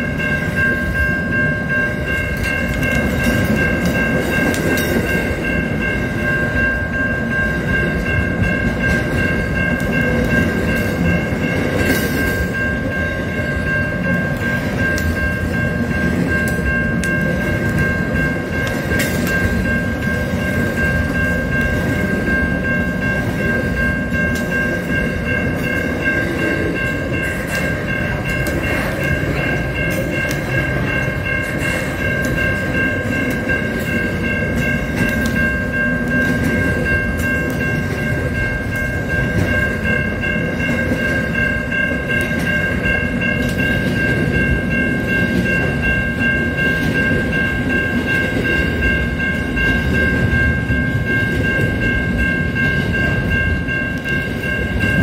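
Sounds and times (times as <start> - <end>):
crossing warning bell: 0.0 - 55.0
freight train rumbling past: 0.0 - 55.0
train wheel clicks: 0.0 - 55.0.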